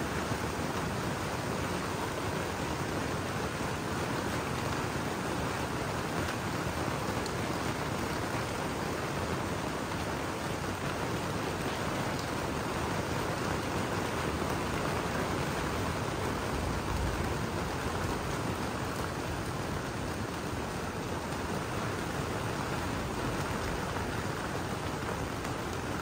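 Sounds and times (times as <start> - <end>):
rain on plastic panels: 0.0 - 26.0.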